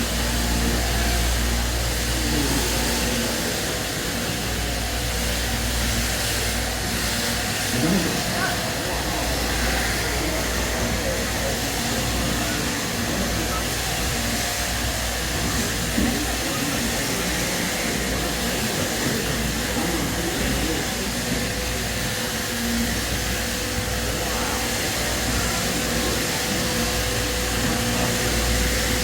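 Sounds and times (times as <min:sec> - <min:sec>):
electric shears humming: 0:00.0 - 0:29.0
faint background voices: 0:00.0 - 0:29.0.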